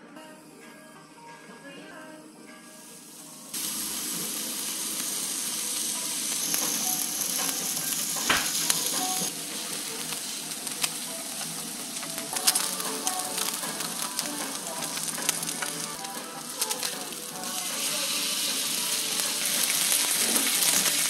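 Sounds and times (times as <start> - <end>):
meat sizzling on griddle: 2.7 - 21.0.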